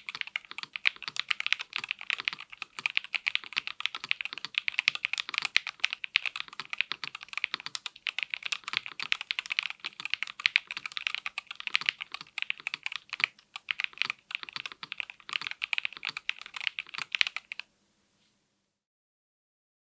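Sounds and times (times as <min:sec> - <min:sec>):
keyboard typing clicks: 0:00.0 - 0:17.6.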